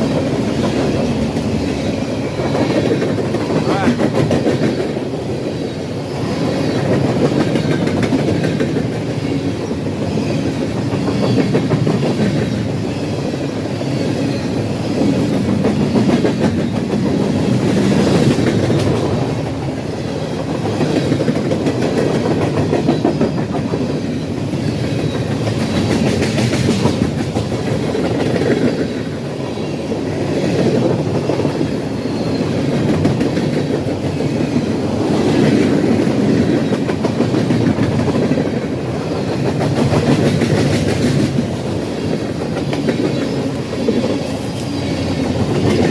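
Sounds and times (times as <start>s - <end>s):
freight train wheels clattering: 0.0s - 45.9s.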